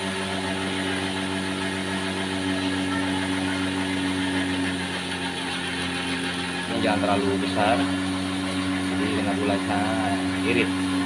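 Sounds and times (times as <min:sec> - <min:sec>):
cotton candy machine humming: 0:00.0 - 0:11.0.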